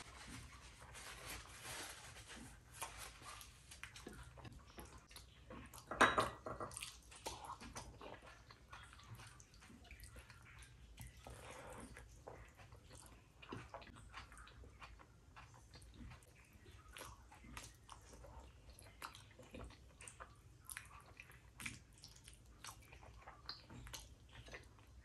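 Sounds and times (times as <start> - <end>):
person chewing with wet smacks: 2.4 - 25.0.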